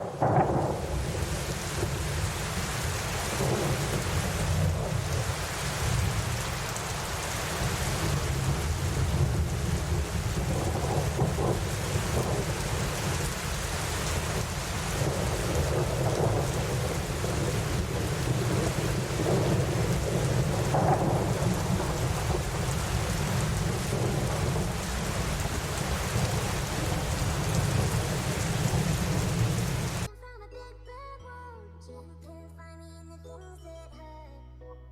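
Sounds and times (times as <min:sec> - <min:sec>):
low rumble of thunder: 0:00.0 - 0:30.1
rain on leaves and ground: 0:00.0 - 0:30.1.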